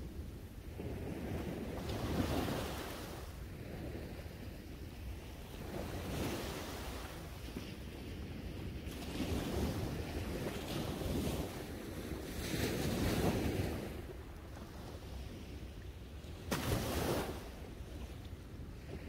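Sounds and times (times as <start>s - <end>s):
small waves breaking on shore: 0.0s - 19.0s
wind on microphone: 0.0s - 19.0s.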